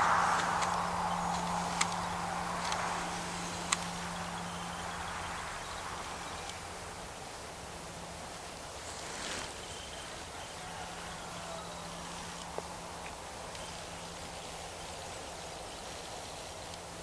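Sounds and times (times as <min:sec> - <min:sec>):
background hiss: 0:00.0 - 0:17.0
faint low hum: 0:00.0 - 0:17.0.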